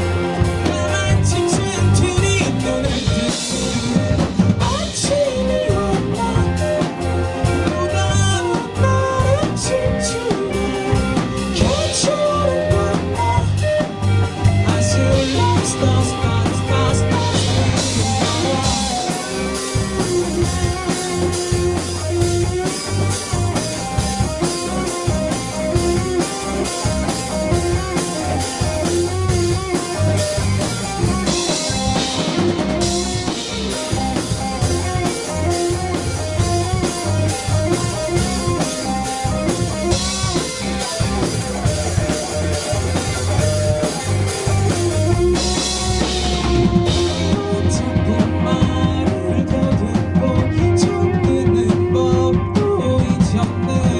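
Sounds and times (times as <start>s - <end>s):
bass line: 0.0s - 53.9s
drum kit with cymbals: 0.0s - 53.9s
guitar melody: 0.0s - 53.9s.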